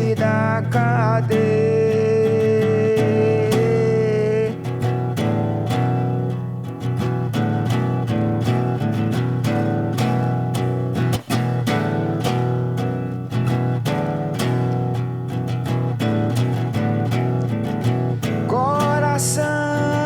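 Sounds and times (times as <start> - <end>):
strummed guitar chords: 0.0 - 20.0.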